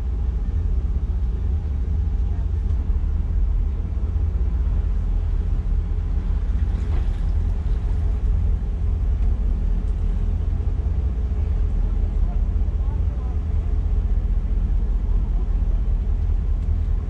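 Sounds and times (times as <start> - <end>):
boat engines rumbling: 0.0 - 17.0.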